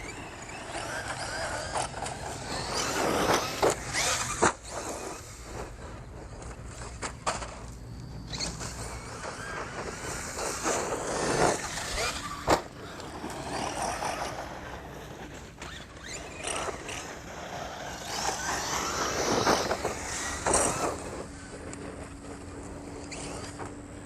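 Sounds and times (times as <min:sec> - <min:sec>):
rc truck motor whining: 0:00.0 - 0:24.0
tyres scrabbling on dirt: 0:00.0 - 0:24.0.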